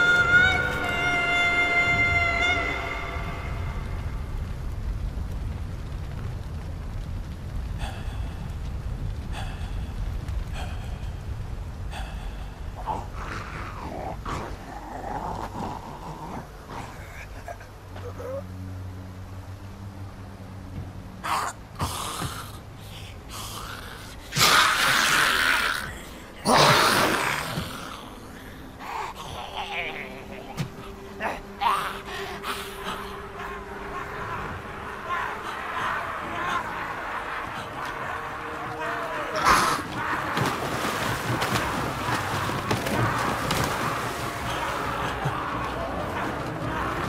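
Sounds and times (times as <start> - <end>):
large fire rumbling: 1.9 - 47.0.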